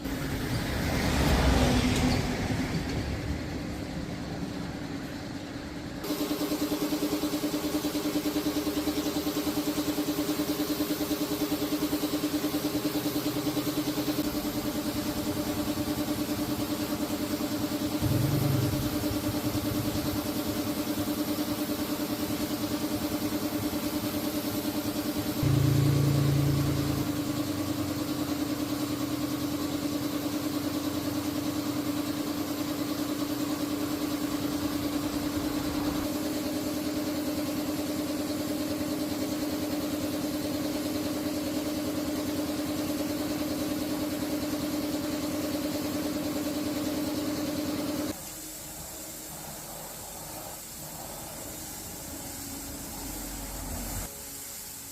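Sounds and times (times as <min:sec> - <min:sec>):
engine idling: 0:02.7 - 0:48.1.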